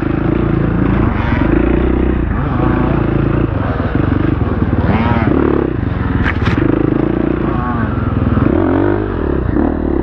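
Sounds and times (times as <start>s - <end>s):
dirt bike engine revving: 0.6s - 8.9s.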